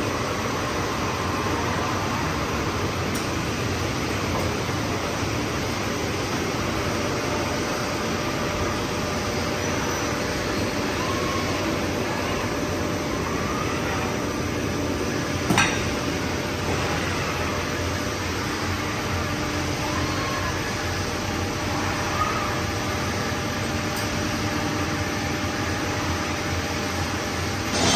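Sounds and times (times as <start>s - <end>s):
machine hum with whines: 0.0s - 27.9s.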